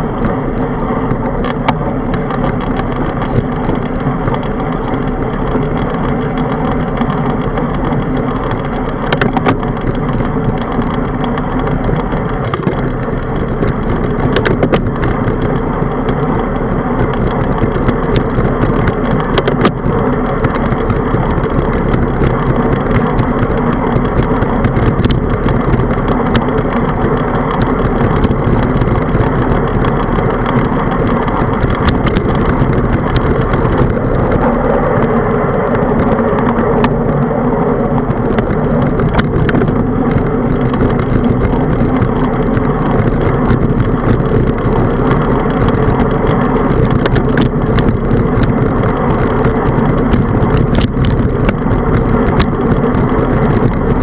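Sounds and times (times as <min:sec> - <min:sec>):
bicycle tyres rolling on asphalt: 0:00.0 - 0:54.0
wind rushing on microphone: 0:00.0 - 0:54.0.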